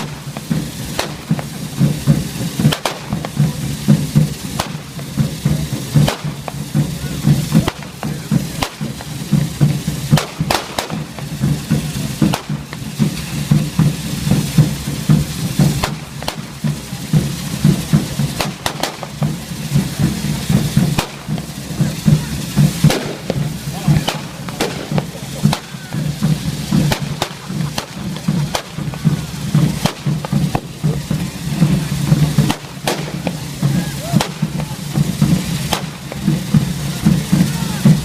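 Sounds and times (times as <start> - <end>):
firecracker bangs: 0.0 - 38.0
pulsing rhythmic beat: 0.0 - 38.0.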